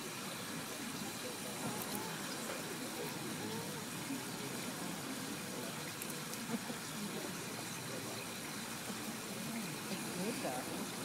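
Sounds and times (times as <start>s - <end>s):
faint crowd chatter: 0.0s - 11.0s.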